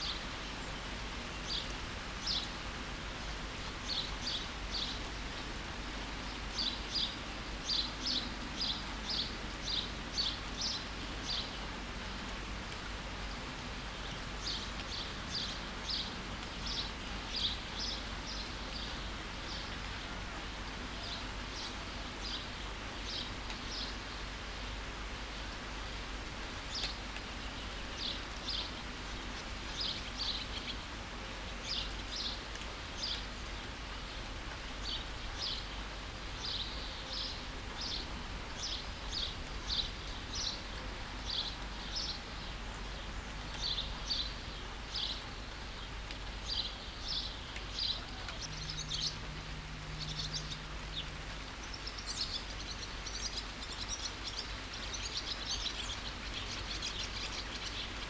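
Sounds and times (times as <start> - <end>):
songbird chirping: 0.0 - 2.7, 3.3 - 12.6, 14.0 - 58.0
steady rain: 0.0 - 58.0.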